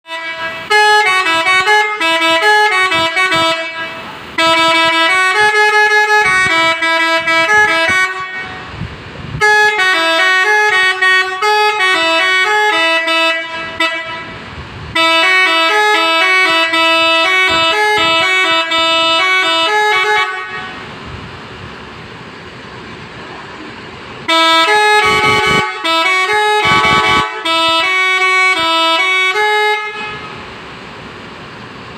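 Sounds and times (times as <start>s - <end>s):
bus horn playing tune: 0.0s - 21.0s, 24.2s - 30.8s.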